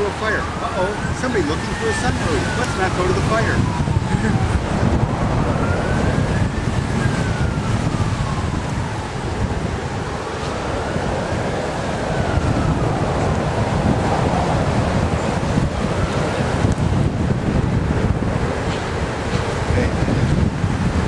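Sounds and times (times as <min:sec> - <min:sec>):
siren wailing: 0:00.0 - 0:19.0
wind noise on microphone: 0:00.0 - 0:21.0.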